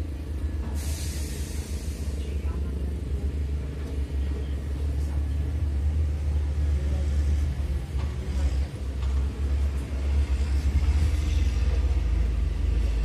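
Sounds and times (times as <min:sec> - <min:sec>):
heavy vehicle engines rumbling: 0:00.0 - 0:13.0.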